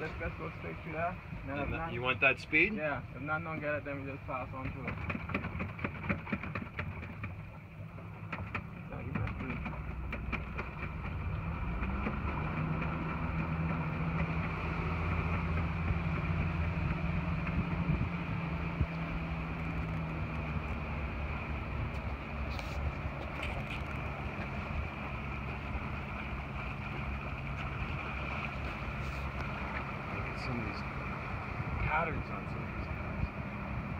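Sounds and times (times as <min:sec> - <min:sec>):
motorboat engine running: 0:00.0 - 0:33.9
wind and water rushing: 0:00.0 - 0:33.9.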